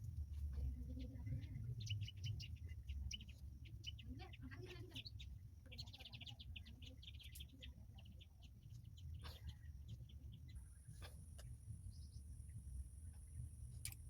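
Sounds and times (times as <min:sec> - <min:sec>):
low steady rumble: 0:00.0 - 0:14.0
small birds chirping: 0:00.0 - 0:14.0.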